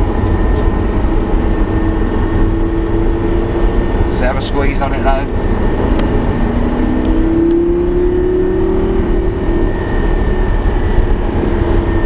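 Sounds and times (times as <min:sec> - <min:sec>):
car engine under throttle: 0:00.0 - 0:12.0
road rumble: 0:00.0 - 0:12.0.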